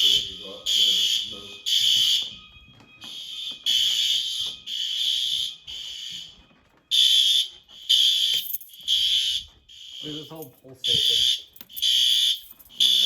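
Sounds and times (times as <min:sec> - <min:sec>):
fire alarm pulsing: 0:00.0 - 0:13.0.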